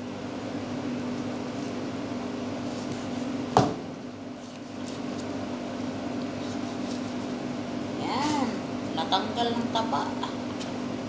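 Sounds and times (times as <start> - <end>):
kitchen ventilation hum: 0.0 - 11.0.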